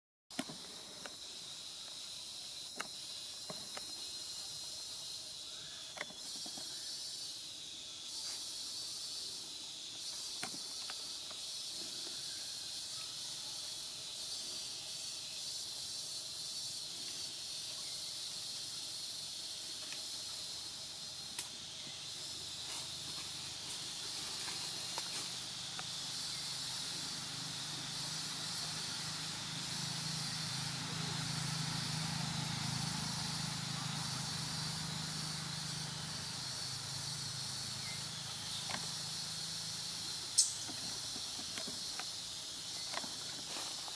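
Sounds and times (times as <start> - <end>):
insects droning: 0.3 - 43.9.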